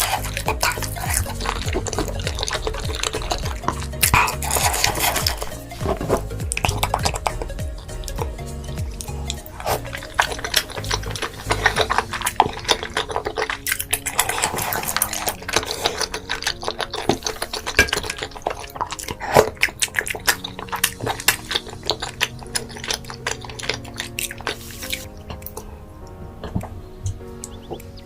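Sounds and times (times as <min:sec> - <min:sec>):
liquid sounds: 0:00.0 - 0:28.0
wet chewing and smacking: 0:00.0 - 0:28.0.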